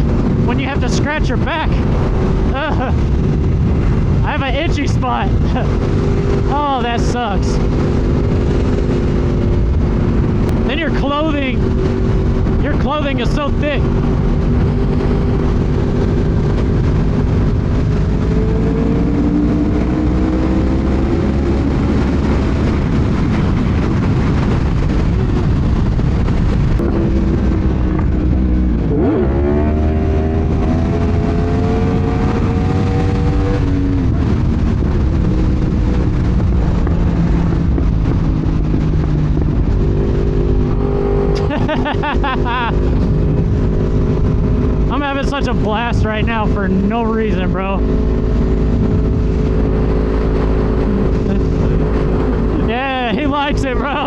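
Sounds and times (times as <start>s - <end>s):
motorcycle engines cruising: 0.0s - 54.0s
wind rush on microphone: 0.0s - 54.0s.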